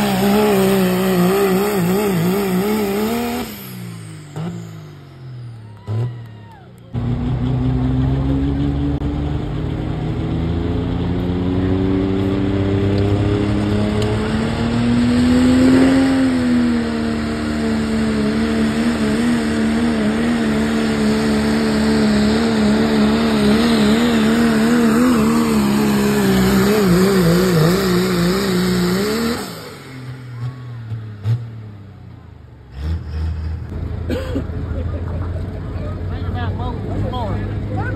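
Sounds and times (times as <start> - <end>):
diesel truck engine full throttle: 0.0 - 37.9.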